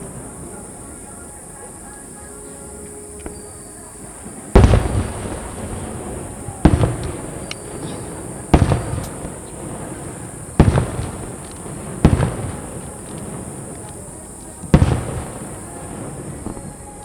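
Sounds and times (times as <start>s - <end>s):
firework shells bursting: 2.8s - 17.0s.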